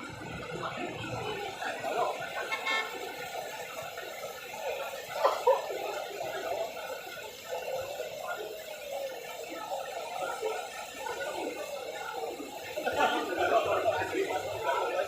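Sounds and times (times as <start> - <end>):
indistinct background voices: 0.0 - 15.0.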